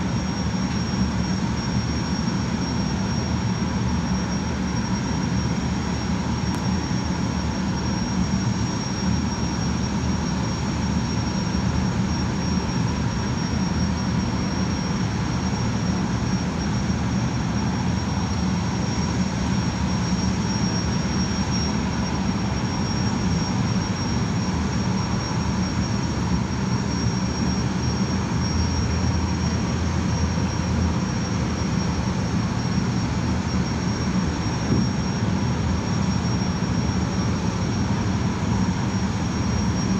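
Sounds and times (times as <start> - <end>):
gas turbine whine: 0.0 - 39.9.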